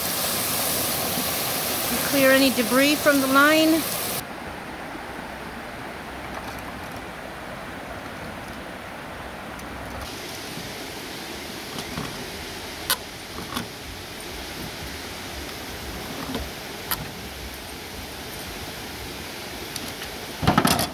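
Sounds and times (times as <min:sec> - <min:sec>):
running water: 0:00.0 - 0:20.9.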